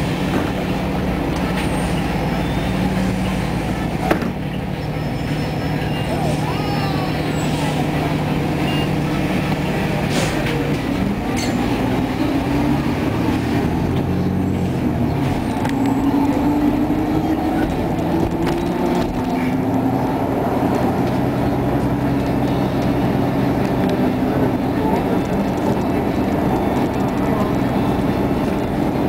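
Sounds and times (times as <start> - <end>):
bus interior engine drone: 0.0 - 29.0.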